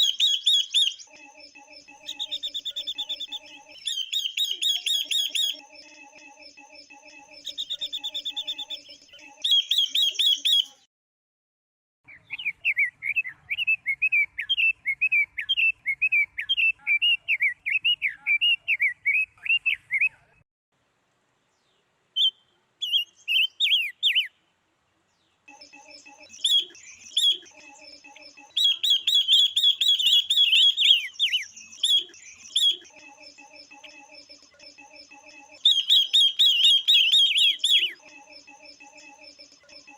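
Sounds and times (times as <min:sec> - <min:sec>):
bird high chirps and warbling chatter: 0:00.0 - 0:10.9, 0:12.1 - 0:20.4, 0:22.2 - 0:24.4, 0:25.5 - 0:39.9.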